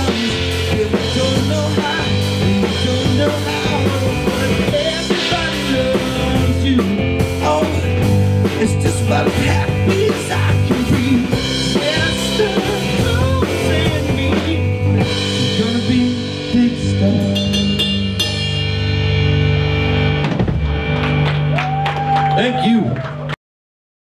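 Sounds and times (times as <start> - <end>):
live rock band playing: 0.0 - 22.7.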